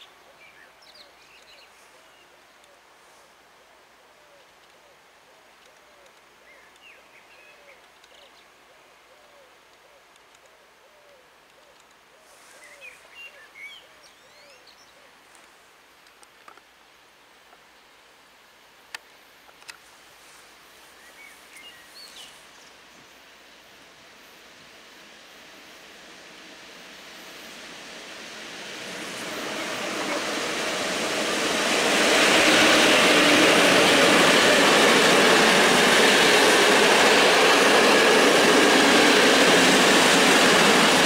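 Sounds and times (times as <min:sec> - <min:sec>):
faint hiss: 0:00.0 - 0:41.0.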